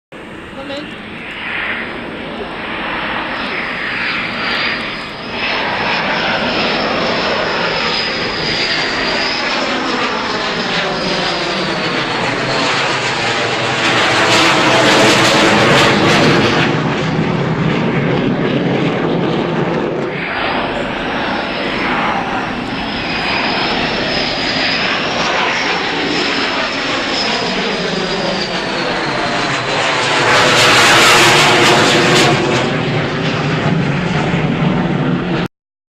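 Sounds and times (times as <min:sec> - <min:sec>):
high jet whine: 0:00.1 - 0:35.5
fighter jets flying over: 0:00.2 - 0:35.5.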